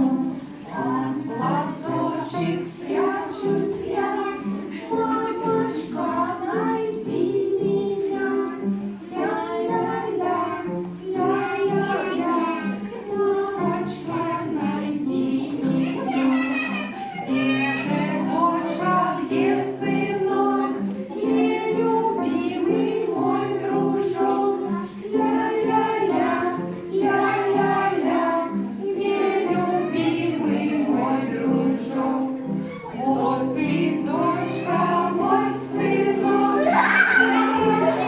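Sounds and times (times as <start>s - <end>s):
women singing: 0.0s - 16.2s, 17.2s - 38.0s
children singing: 0.0s - 38.0s
musical accompaniment: 0.0s - 38.0s.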